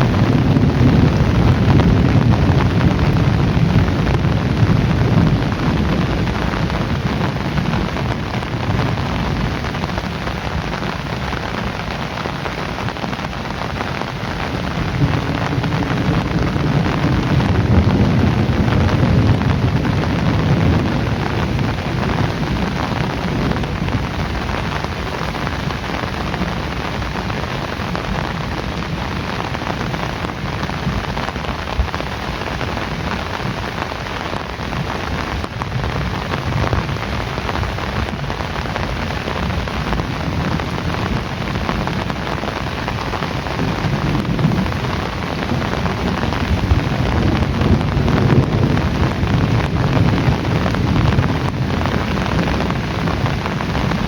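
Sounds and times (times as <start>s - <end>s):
heavy rain: 0.0s - 54.0s
thunder rolling: 0.0s - 54.0s.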